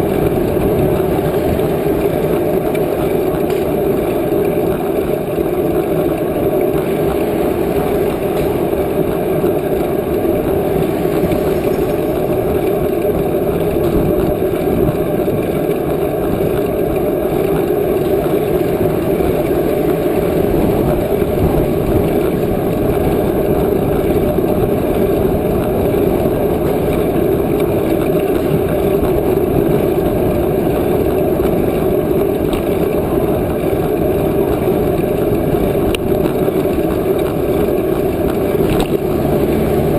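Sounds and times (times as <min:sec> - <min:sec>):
wind rushing over microphone: 0:06.7 - 0:39.9.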